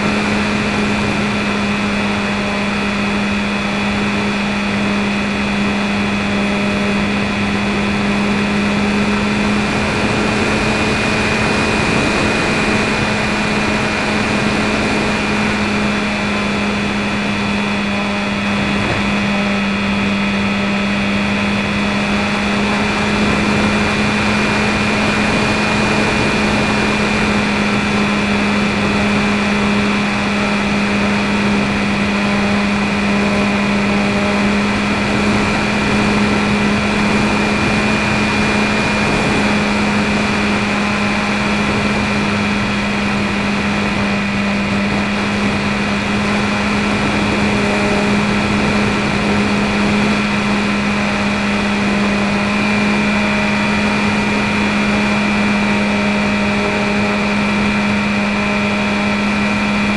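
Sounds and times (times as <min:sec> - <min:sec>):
electric motor and propeller drone: 0:00.0 - 0:59.9.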